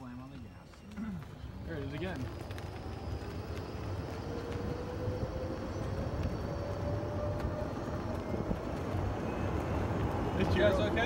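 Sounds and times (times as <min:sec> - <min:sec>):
golf cart rumble: 0:00.6 - 0:11.0
faint rising whine: 0:01.6 - 0:11.0.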